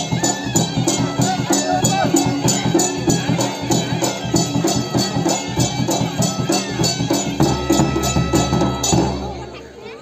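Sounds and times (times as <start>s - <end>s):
metallic percussion strokes: 0.0s - 9.8s
folk dance music: 0.0s - 10.0s.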